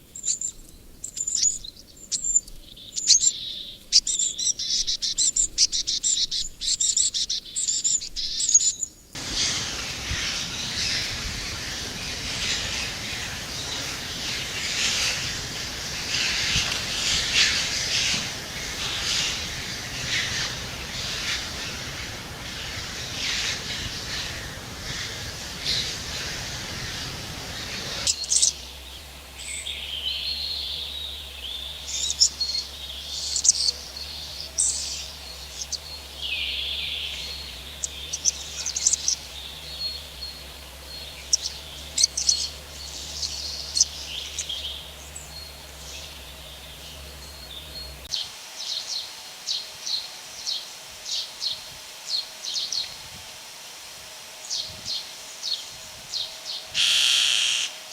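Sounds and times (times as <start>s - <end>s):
birds chirping and whistling: 0.2s - 49.0s
steady rushing noise: 9.2s - 56.8s.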